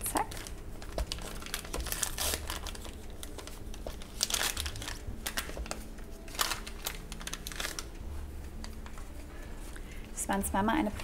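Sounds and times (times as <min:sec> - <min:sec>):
paper sachet crinkling: 0:00.0 - 0:09.8.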